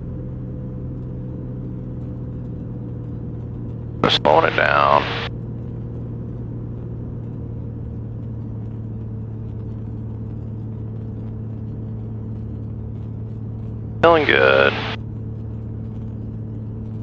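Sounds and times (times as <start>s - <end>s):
aircraft engine drone in cockpit: 0.0s - 17.0s.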